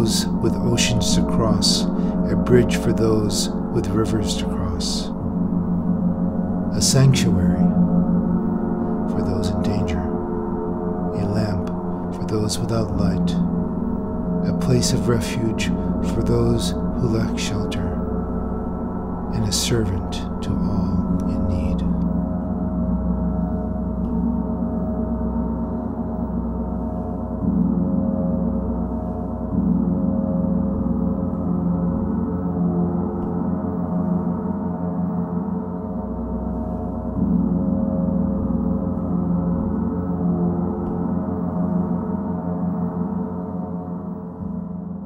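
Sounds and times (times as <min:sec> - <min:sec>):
gongs shimmering: 0:00.0 - 0:45.0.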